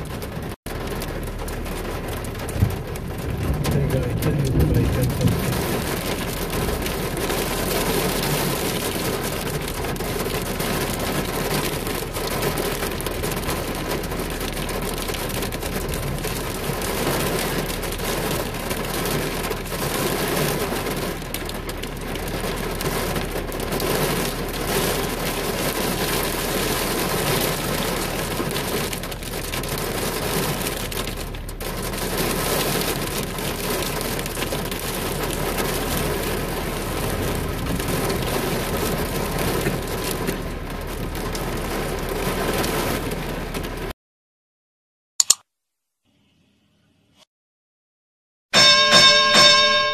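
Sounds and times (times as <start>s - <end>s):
heavy rain on car windshield: 0.0s - 44.0s.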